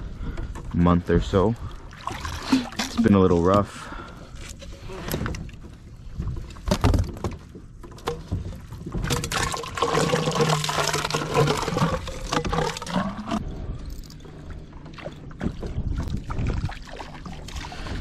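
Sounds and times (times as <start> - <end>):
water pouring and sloshing: 0.0 - 18.0.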